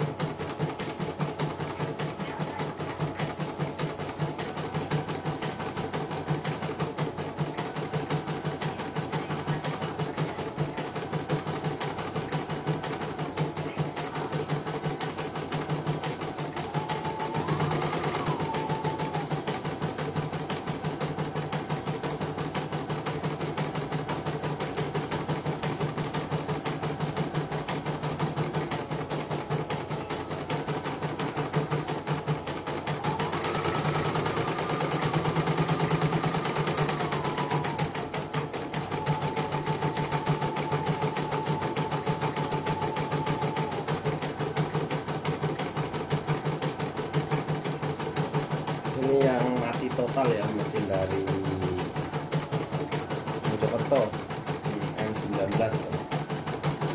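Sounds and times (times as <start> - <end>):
embroidery machine stitching clatter: 0.0 - 56.9.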